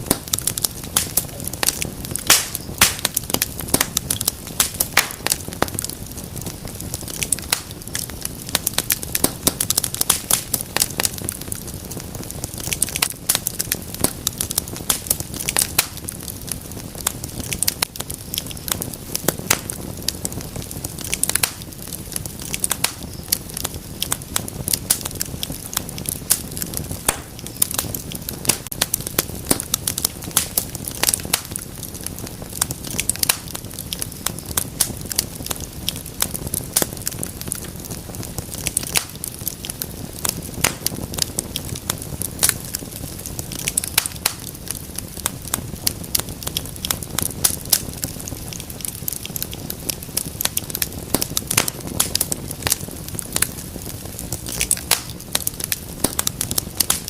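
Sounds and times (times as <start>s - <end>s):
sharp pops and snaps: 0.0s - 57.0s
wood fire crackling: 0.0s - 57.0s.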